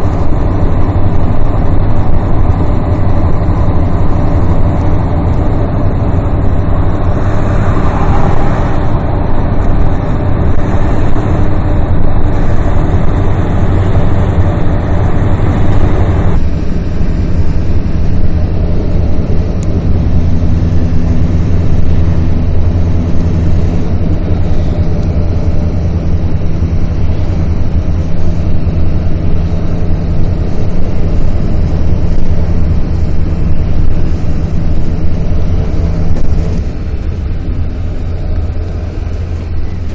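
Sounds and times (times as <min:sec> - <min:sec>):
road noise: 0:00.0 - 0:39.9
vehicle engine drone: 0:00.0 - 0:39.9.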